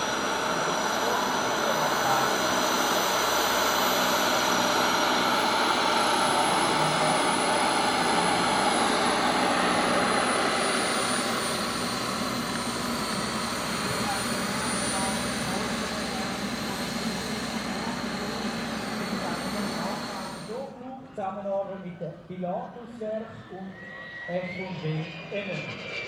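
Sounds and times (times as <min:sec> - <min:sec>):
jet turbines roaring and whining: 0:00.0 - 0:20.9, 0:22.6 - 0:26.0.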